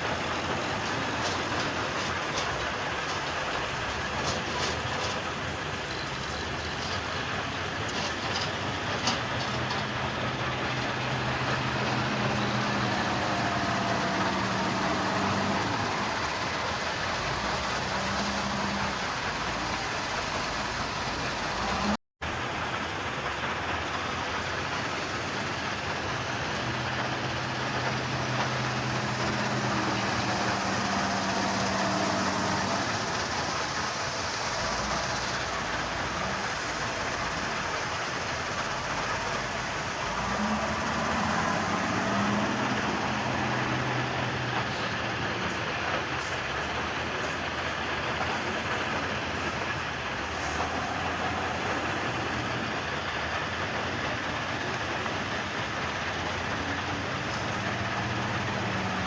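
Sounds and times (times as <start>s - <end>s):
engine hum: 0.0s - 59.0s
heavy machinery rumbling: 0.0s - 59.0s.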